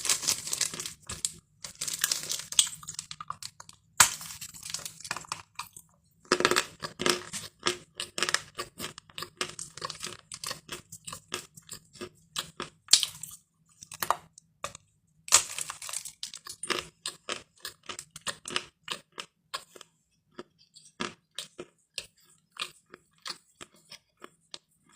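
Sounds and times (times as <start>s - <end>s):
crunchy chewing: 0.0s - 24.9s.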